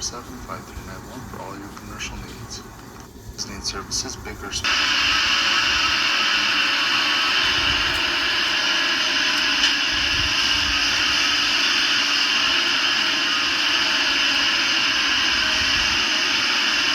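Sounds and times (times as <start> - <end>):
carpet cleaner motor whining: 0.0 - 16.9.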